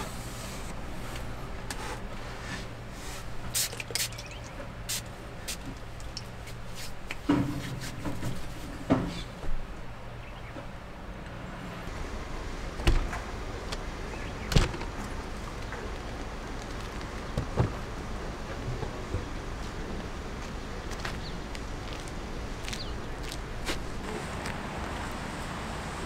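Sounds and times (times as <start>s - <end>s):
outdoor noise: 0.0s - 26.0s.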